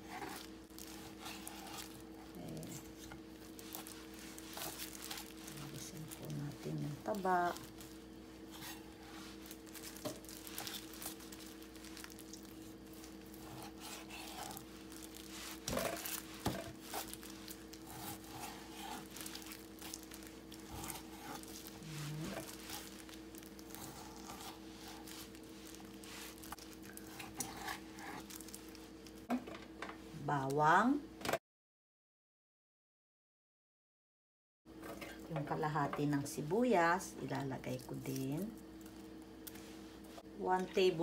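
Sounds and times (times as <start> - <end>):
faint hum: 0.0 - 31.4, 34.7 - 41.0.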